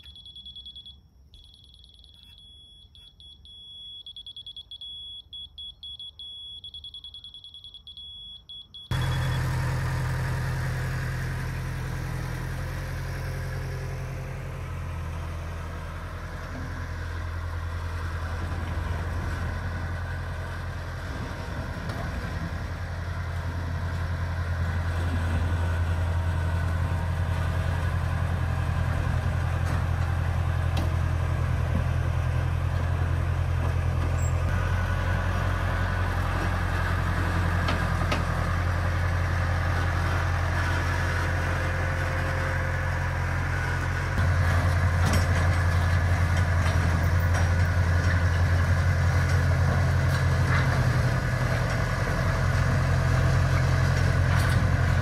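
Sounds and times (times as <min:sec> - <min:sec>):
diesel engine running: 0:08.0 - 0:55.0.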